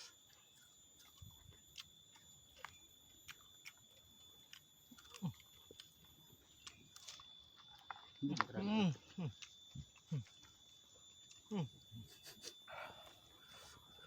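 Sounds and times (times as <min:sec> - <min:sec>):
person chewing raw vegetables: 0:00.0 - 0:13.9.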